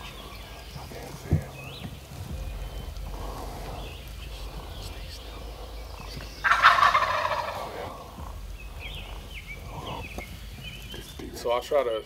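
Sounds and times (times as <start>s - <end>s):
turkey gobbling: 0.9s - 11.1s.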